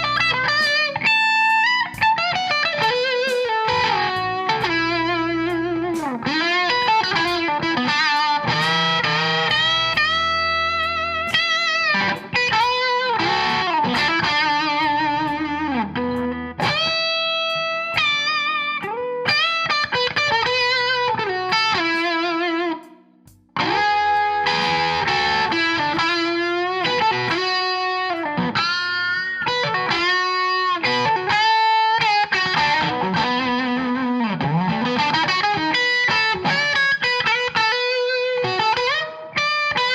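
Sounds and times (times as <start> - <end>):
electric guitar blues solo: 0.0 - 39.9.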